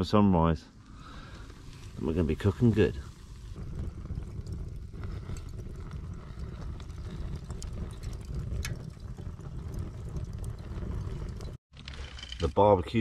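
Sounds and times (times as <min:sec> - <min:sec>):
flames burning: 0:00.6 - 0:13.0
faint crackles: 0:00.7 - 0:13.0.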